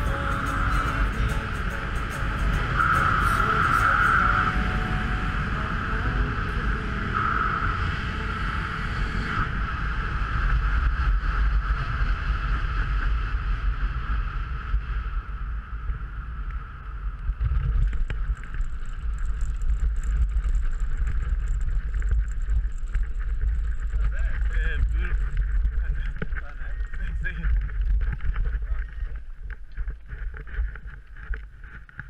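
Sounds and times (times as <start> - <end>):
airflow buffeting microphone: 0.0 - 32.0.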